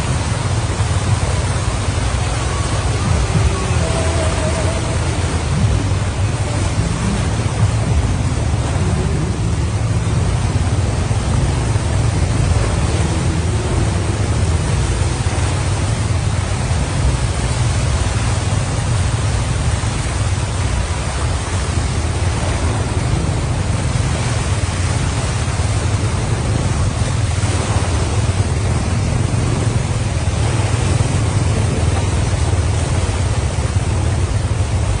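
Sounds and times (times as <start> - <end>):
continuous low rumble: 0.0 - 35.0
floodwater rushing and splashing: 0.0 - 35.0.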